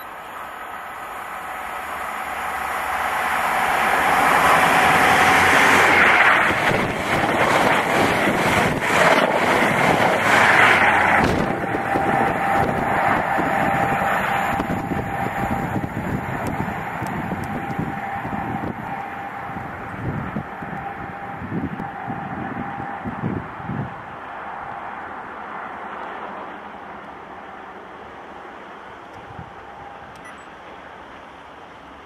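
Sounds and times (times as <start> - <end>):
train engine: 0.0 - 32.0
train coaches rushing past: 0.1 - 29.0.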